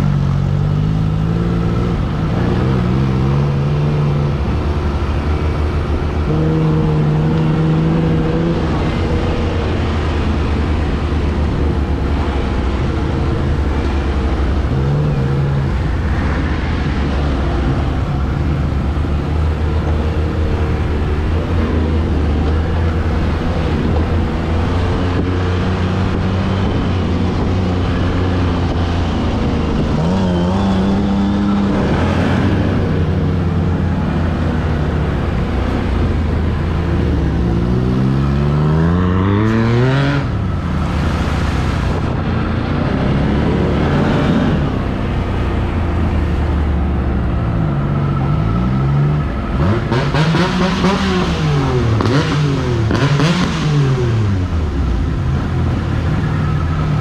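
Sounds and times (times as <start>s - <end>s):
atv engine revving: 0.0s - 16.2s, 18.8s - 46.7s, 47.3s - 56.2s.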